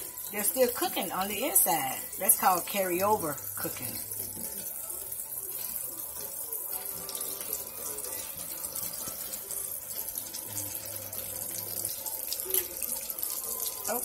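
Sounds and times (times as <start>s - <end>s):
shrimp deep frying in oil: 0.0s - 14.0s.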